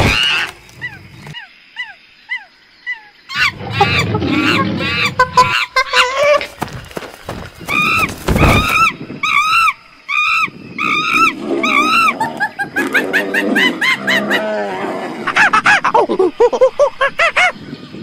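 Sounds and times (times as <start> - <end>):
animal calling: 0.0 - 6.7, 7.6 - 16.0.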